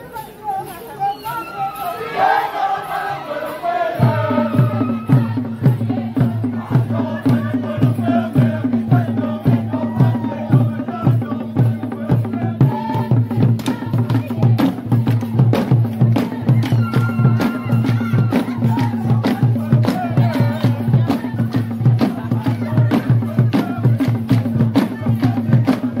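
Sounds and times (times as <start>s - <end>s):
people singing and chanting: 0.0s - 26.0s
drums playing a steady beat: 2.9s - 26.0s.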